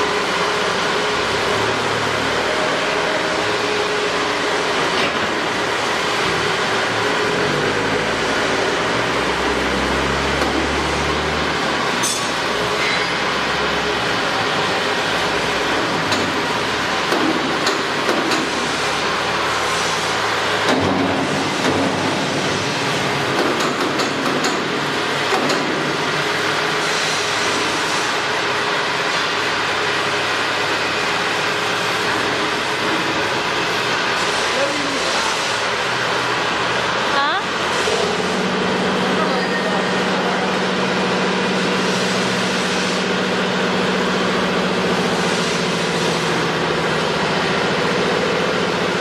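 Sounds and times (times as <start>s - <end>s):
loud machinery rumble: 0.0s - 49.0s.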